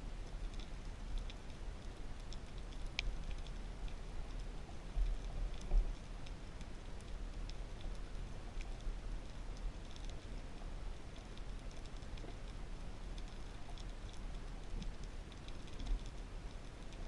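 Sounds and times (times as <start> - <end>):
faint underwater clicks and crackles: 0.0 - 17.0.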